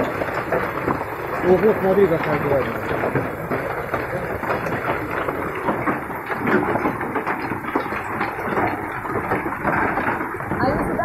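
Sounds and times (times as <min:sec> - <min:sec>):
heavy rain and hail pattering: 0:00.0 - 0:11.0.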